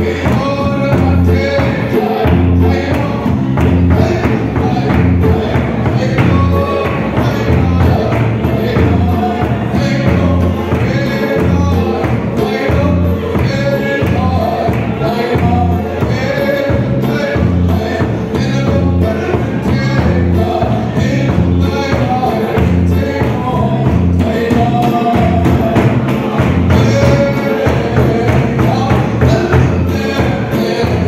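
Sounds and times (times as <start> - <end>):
congregation singing a hymn: 0.0 - 31.0
drum beating steadily: 0.0 - 31.0.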